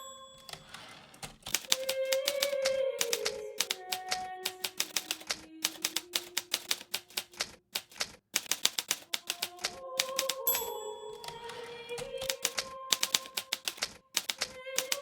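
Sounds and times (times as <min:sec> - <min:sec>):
typewriter keys clacking: 0:00.0 - 0:15.0.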